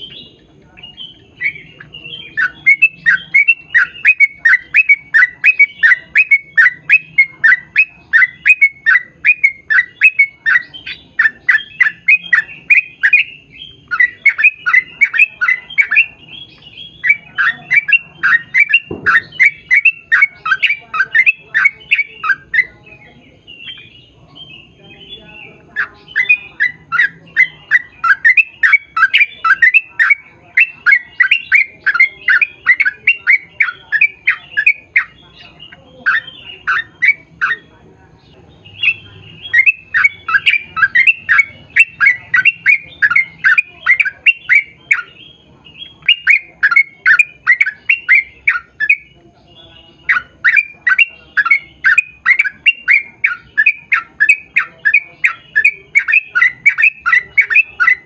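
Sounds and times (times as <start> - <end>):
bird chattering calls: 0.0 - 58.0.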